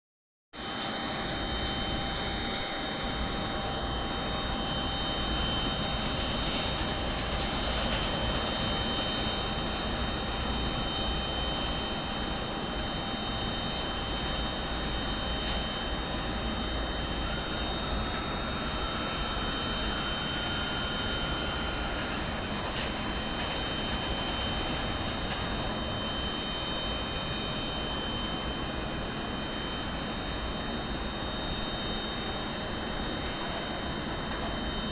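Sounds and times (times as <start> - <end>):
jet aircraft idling: 0.9 - 34.9.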